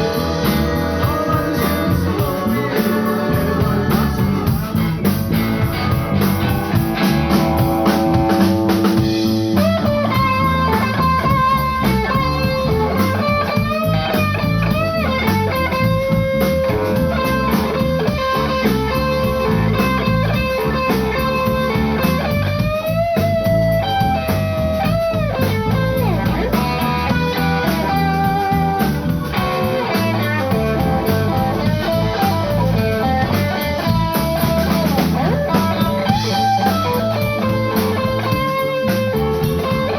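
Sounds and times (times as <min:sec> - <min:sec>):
bass guitar: 0:00.0 - 0:39.9
drums: 0:00.0 - 0:39.9
electric guitar solo: 0:05.4 - 0:39.9.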